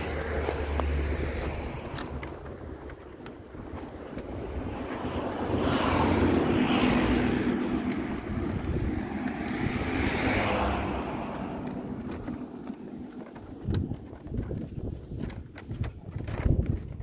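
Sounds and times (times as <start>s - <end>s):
road traffic passing: 0.0s - 16.1s.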